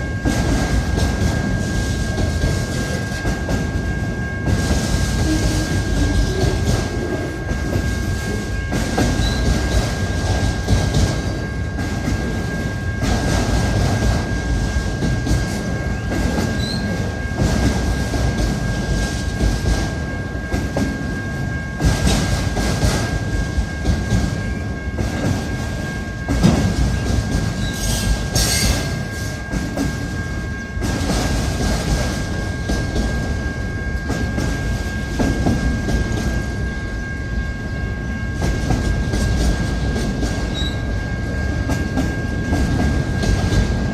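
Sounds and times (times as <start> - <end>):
thin high whine: 0.0 - 43.9
train cars clattering: 0.0 - 43.9
train wheels rumbling on rail: 0.0 - 43.9.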